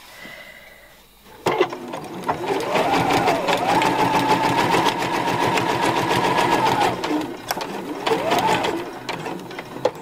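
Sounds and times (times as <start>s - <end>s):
sewing machine whining: 1.4s - 10.0s.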